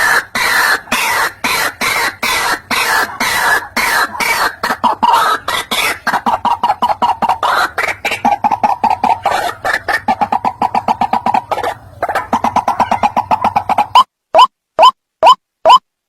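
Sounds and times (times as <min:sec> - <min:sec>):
waterhen calling harsh notes: 0:00.0 - 0:15.8.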